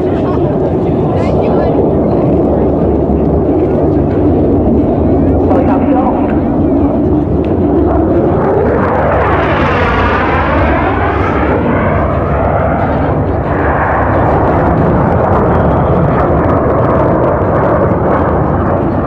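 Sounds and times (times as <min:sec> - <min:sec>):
jet aircraft roaring past: 0:00.0 - 0:19.0.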